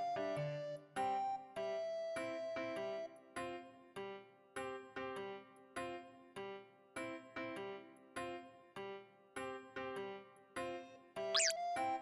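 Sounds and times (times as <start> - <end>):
light background music: 0.0 - 12.0.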